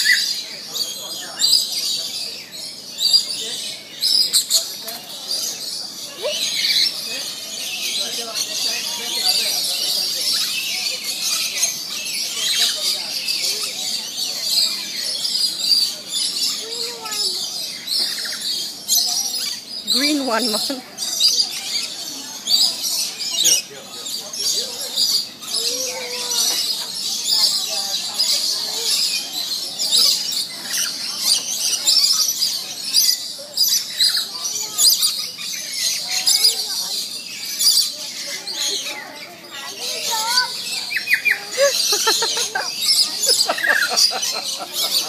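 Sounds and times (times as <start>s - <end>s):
lorikeets screeching and chattering: 0.0s - 45.0s.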